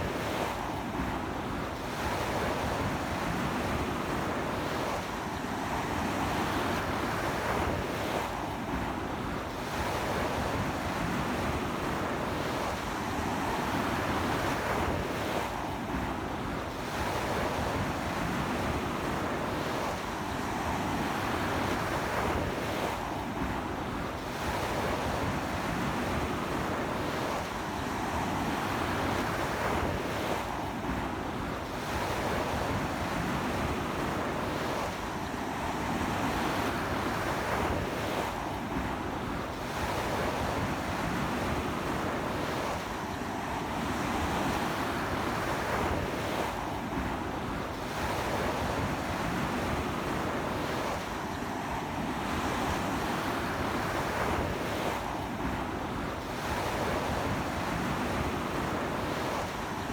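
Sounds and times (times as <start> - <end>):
sea wind: 0.0 - 59.9.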